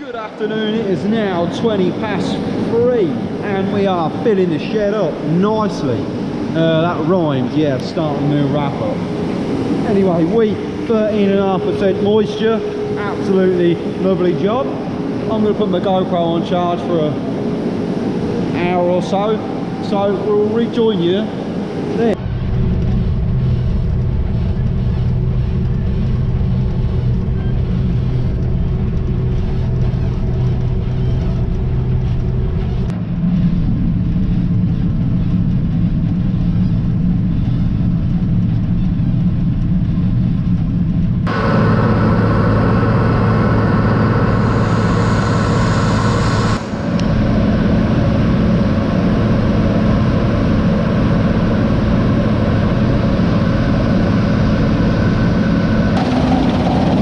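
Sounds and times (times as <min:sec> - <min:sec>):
steady machine whine: 0:00.0 - 0:57.0
diesel engine running under load: 0:00.5 - 0:57.0.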